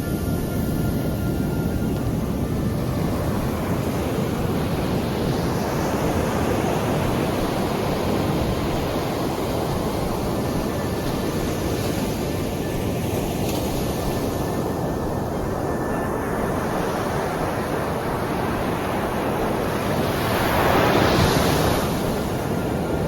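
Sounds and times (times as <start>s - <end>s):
waves breaking on shore: 0.0s - 23.0s.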